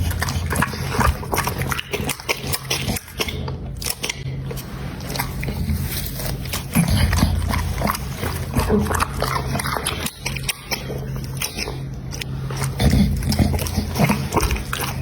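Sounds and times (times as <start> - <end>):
dog chewing and crunching: 0.0 - 15.0.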